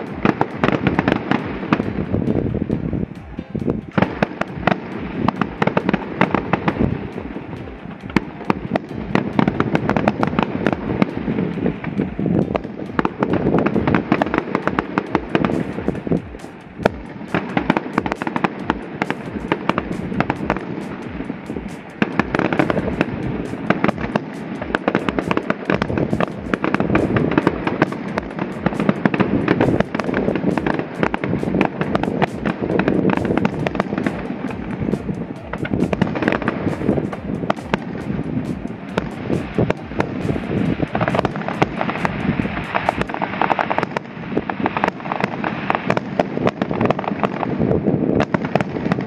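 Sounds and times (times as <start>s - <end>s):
fireworks bursting and crackling: 0.0s - 49.0s.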